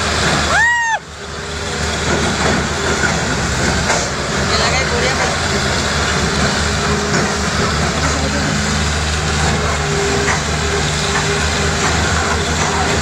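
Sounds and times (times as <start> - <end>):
heavy engine running: 0.0 - 13.0
loud background noise: 0.0 - 13.0.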